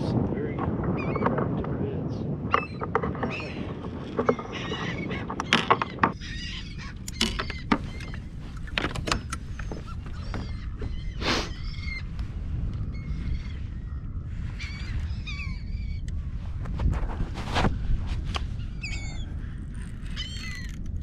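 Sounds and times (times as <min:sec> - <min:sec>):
low wind rumble: 0:00.0 - 0:21.0
gulls calling: 0:00.4 - 0:16.2, 0:18.4 - 0:21.0.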